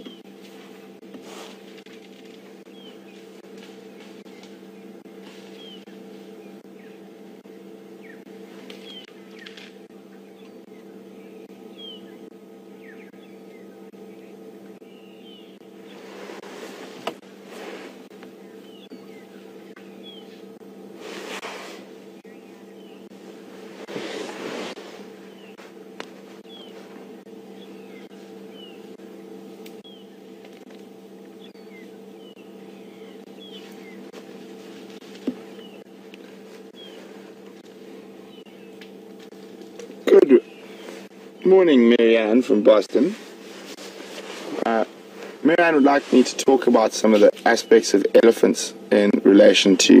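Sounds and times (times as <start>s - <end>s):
steady low hum: 0.0s - 50.0s
wild birds chirping: 0.0s - 50.0s.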